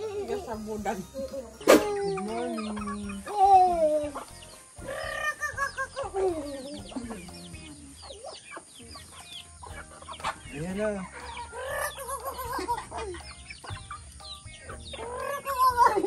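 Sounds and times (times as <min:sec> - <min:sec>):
chickens clucking: 0:00.0 - 0:16.0
drawn-out chicken calls: 0:00.0 - 0:16.0.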